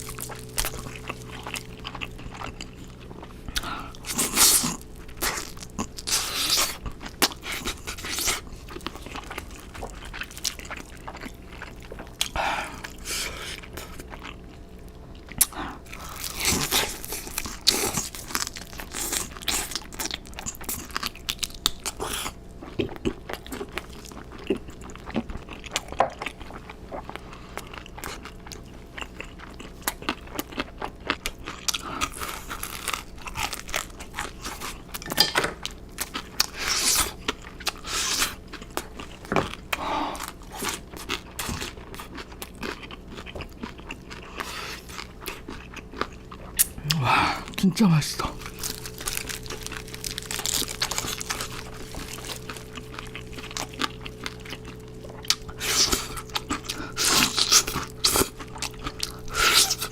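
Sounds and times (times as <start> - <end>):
crunching chewing of fried food: 0.0 - 59.9.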